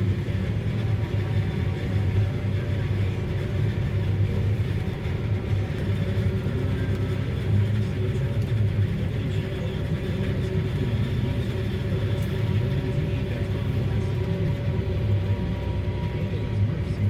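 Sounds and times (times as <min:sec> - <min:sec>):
diesel machinery engine drone: 0:00.0 - 0:17.0.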